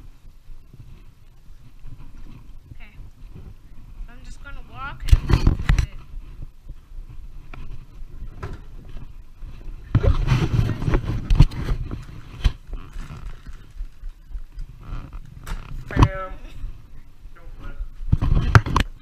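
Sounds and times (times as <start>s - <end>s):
camera handling rubbing and rumble: 0.6s - 4.0s, 5.0s - 17.2s, 18.0s - 19.0s.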